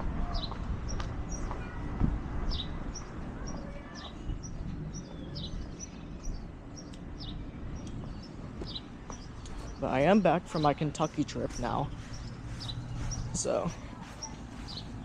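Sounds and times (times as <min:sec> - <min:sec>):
low outdoor rumble: 0:00.0 - 0:15.0
small birds chirping: 0:00.2 - 0:15.0.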